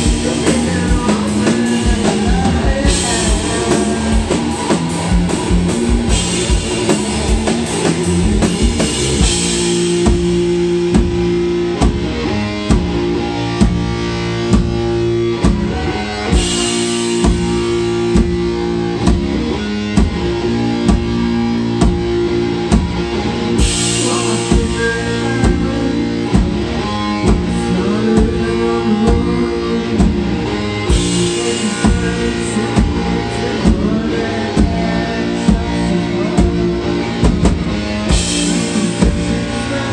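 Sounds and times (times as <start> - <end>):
drum kit beat: 0.0 - 39.9
guitar chords: 0.0 - 39.9.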